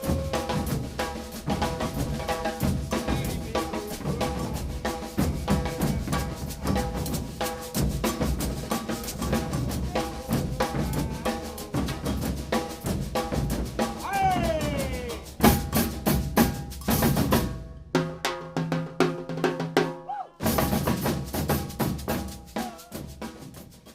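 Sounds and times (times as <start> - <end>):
percussion ensemble drumming: 0.0 - 23.9.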